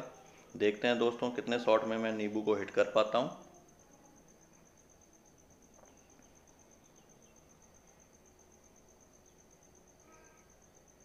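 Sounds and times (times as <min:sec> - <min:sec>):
faint high-pitched pulsing trill: 0:00.0 - 0:11.0.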